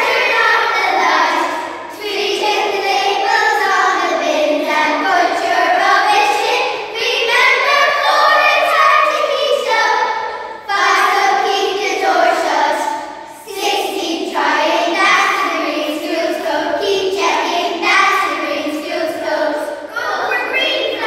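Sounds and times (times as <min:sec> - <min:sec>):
girls choir singing: 0:00.0 - 0:21.0.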